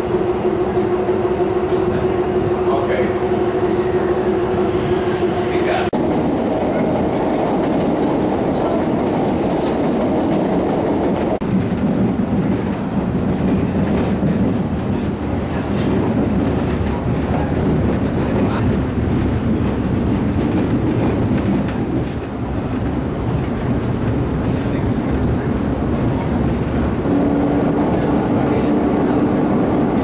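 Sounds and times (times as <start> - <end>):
subway car wheels rumbling on rails: 0.0 - 30.0.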